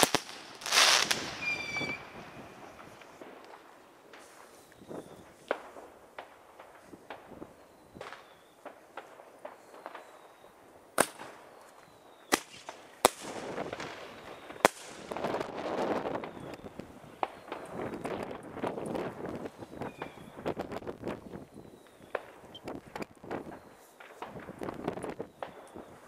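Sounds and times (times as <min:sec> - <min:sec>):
firecracker and rocket bangs: 0:00.0 - 0:10.2, 0:12.3 - 0:26.0
fireworks crackling: 0:00.0 - 0:26.0.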